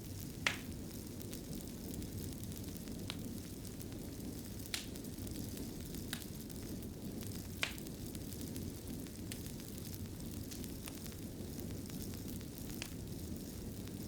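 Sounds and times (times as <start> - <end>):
low rumble of burning: 0.0 - 14.0
wood fire popping: 0.0 - 14.0.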